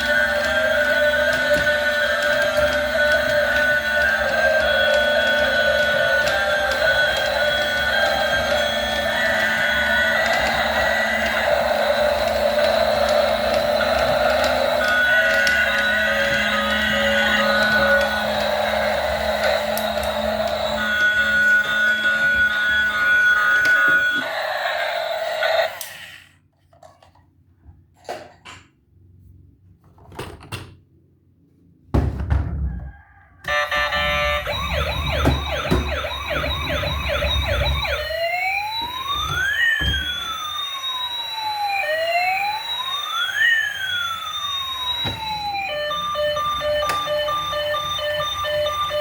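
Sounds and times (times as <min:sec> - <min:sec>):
toy electronic siren: 0:00.0 - 0:26.1, 0:32.7 - 0:49.0.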